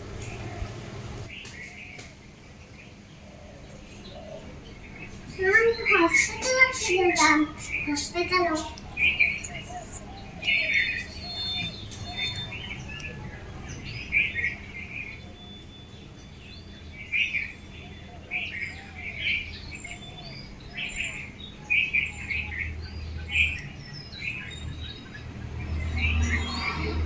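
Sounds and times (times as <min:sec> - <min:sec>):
faint low arching bird notes: 0:00.0 - 0:01.4, 0:03.2 - 0:26.8
birds chirping: 0:00.0 - 0:27.0.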